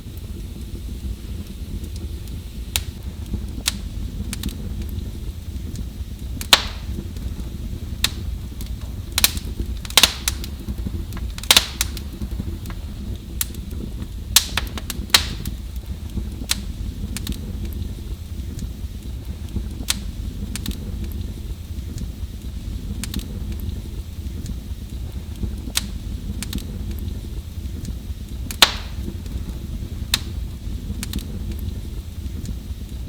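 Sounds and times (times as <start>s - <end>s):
fire crackling in a fireplace: 0.0s - 33.0s.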